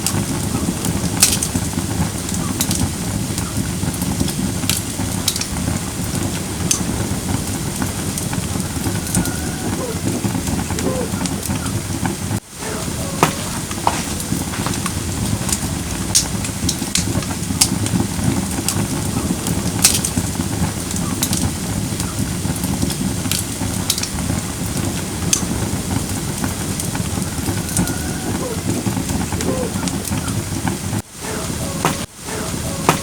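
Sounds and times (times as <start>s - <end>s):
campfire flames rushing: 0.0s - 33.0s
fire crackling and popping: 0.0s - 33.0s.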